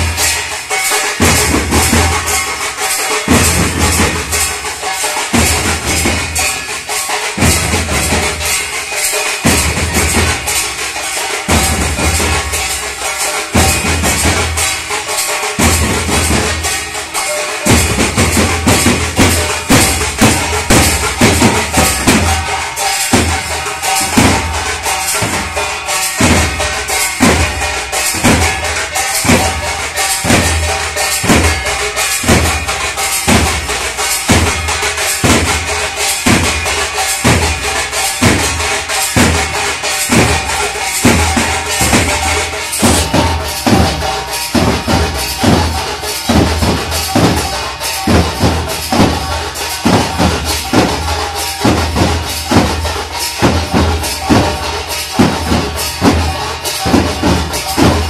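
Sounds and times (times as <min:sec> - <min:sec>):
drums beating steady rhythm: 0:00.0 - 0:58.0
metal cymbals ringing: 0:00.0 - 0:58.0.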